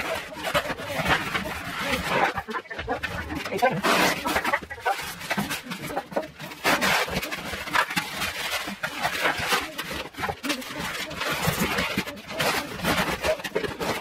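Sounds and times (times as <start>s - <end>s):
cardboard scraping: 0.0s - 14.0s
plastic rustling: 0.0s - 14.0s.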